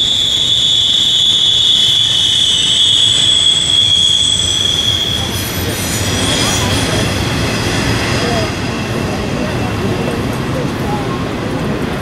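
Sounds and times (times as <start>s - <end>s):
train wheel flange squeal: 0.0s - 11.1s
railcars rumbling: 0.0s - 12.0s.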